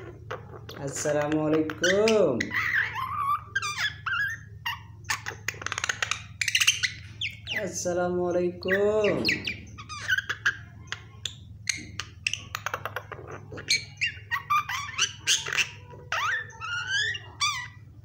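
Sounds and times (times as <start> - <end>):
myna clicks chirps and squawks: 0.0 - 7.7, 8.6 - 18.0.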